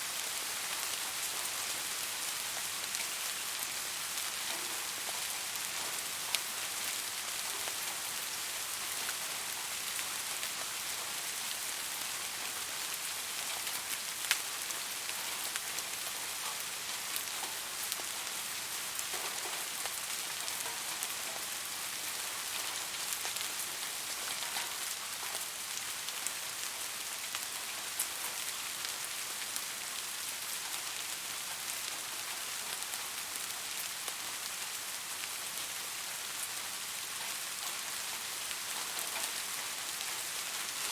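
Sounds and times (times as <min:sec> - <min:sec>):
steady rain hiss: 0:00.0 - 0:40.9
raindrops ticking on a surface: 0:00.1 - 0:40.9.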